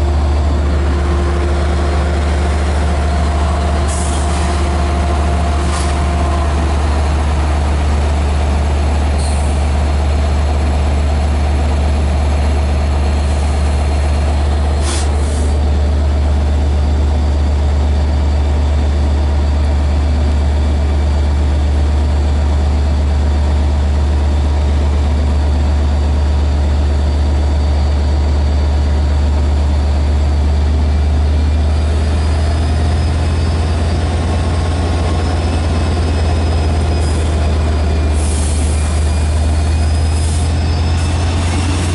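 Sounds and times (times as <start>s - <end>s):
diesel locomotive drone: 0.0s - 41.9s.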